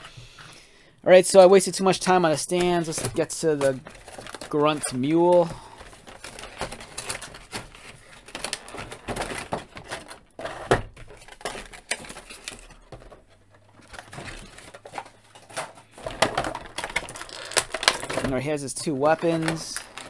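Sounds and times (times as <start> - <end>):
plastic packaging crinkling: 2.0 - 20.0.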